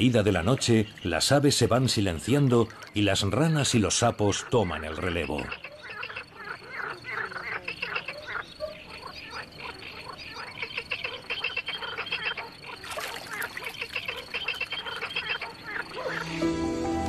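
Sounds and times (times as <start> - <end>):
frogs and toads croaking: 0.0 - 16.5.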